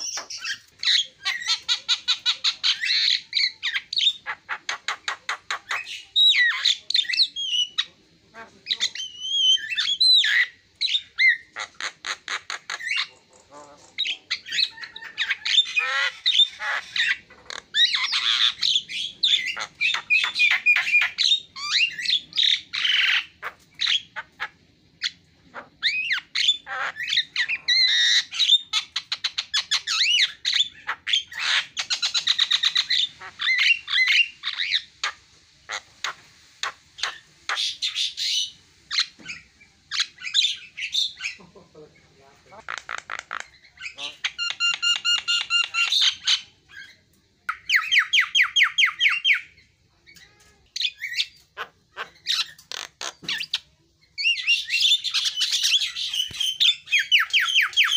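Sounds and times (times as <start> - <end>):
bird singing varied song: 0.0 - 57.9.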